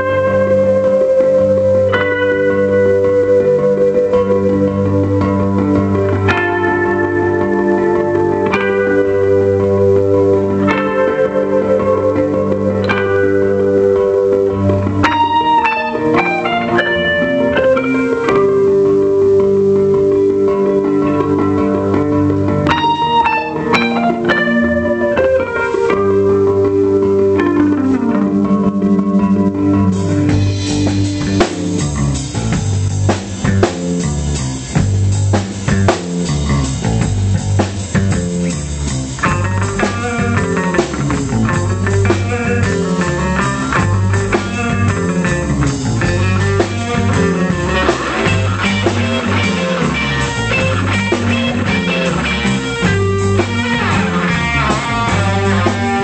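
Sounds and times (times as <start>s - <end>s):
bass guitar: 0.0s - 56.0s
drums: 0.0s - 56.0s
electric guitar lead: 0.0s - 56.0s.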